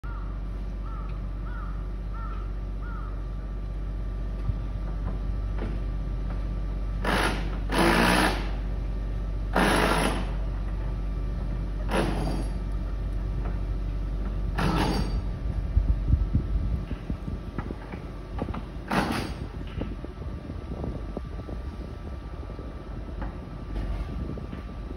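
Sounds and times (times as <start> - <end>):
low machine hum: 0.0 - 24.9.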